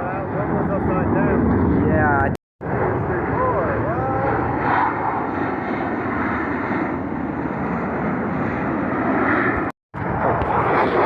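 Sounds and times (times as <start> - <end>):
airplane engine drone overhead: 0.0 - 11.0.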